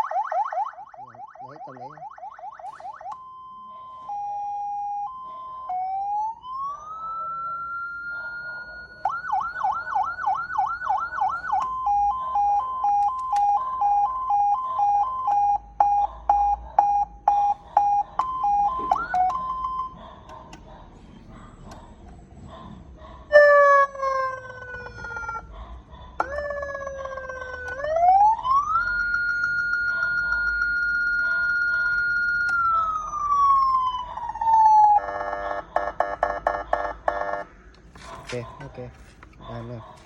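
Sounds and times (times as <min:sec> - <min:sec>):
ambulance siren cycling tones: 0:00.0 - 0:22.4, 0:23.2 - 0:40.0.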